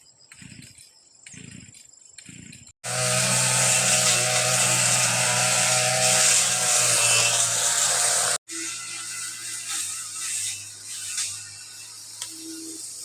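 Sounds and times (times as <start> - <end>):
small motor running: 0.3 - 13.0.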